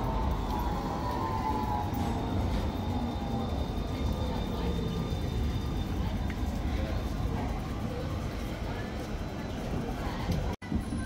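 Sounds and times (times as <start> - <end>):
tram motors whining: 0.0 - 11.0
wheels rumbling on rails: 0.0 - 11.0.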